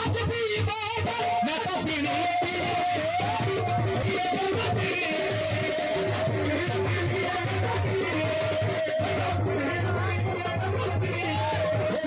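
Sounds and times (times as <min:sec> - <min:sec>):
steady low drum beat: 0:01.9 - 0:12.0.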